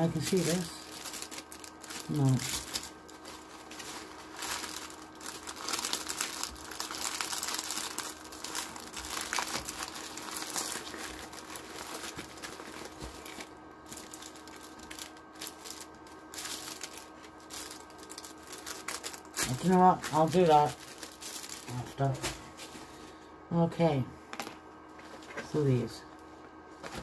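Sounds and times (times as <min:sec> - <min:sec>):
plastic packaging crinkling: 0:00.0 - 0:22.8.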